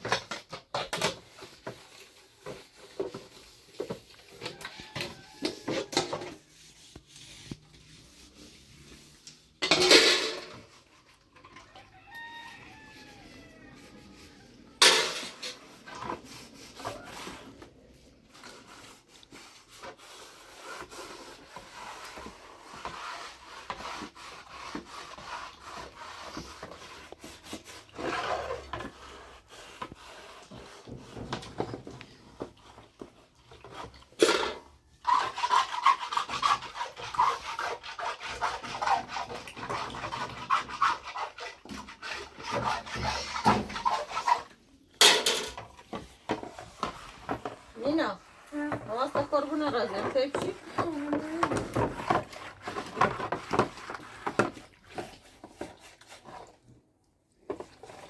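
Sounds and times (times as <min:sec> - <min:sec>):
rubbing and scraping: 0:00.0 - 0:56.8, 0:57.4 - 0:58.0.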